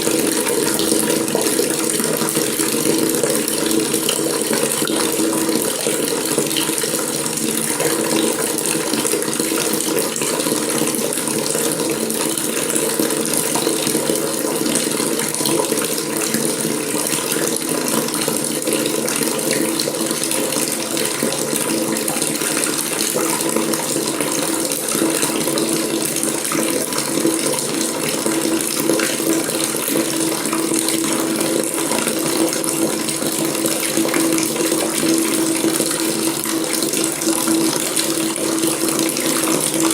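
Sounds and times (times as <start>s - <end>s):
faucet water running into sink: 0.0s - 39.9s.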